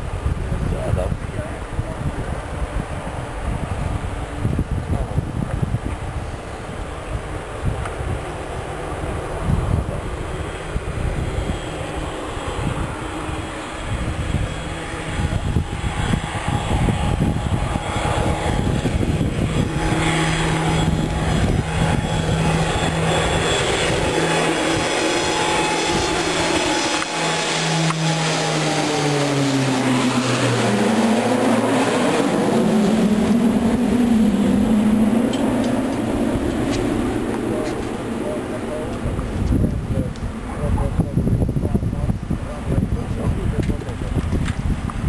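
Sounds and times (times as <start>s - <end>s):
propeller planes droning overhead: 0.0s - 45.0s.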